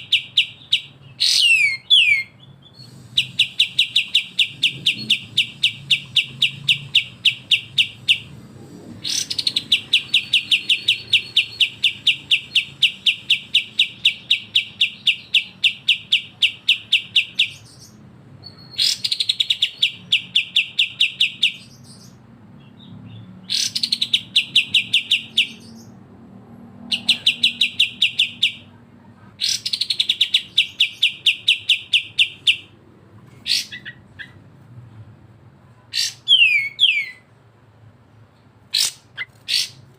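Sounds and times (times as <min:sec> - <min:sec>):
songbird chattering: 0:00.0 - 0:08.4, 0:09.0 - 0:26.0, 0:26.9 - 0:34.4, 0:35.9 - 0:37.3, 0:38.7 - 0:39.9.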